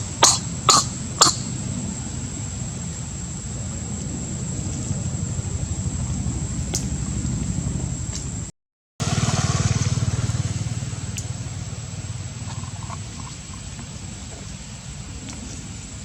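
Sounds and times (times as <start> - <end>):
small engine rumbling: 0.0 - 16.0.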